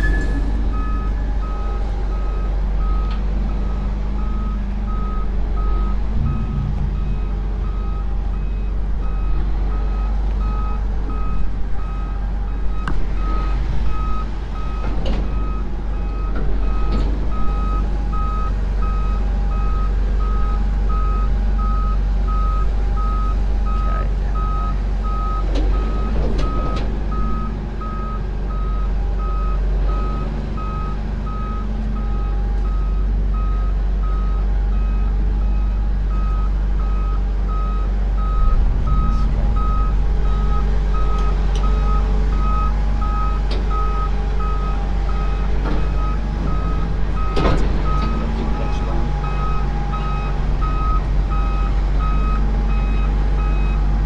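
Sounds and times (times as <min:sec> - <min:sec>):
reversing alarm beeping: 0:00.0 - 0:53.8
heavy vehicle engine running: 0:00.0 - 0:54.0.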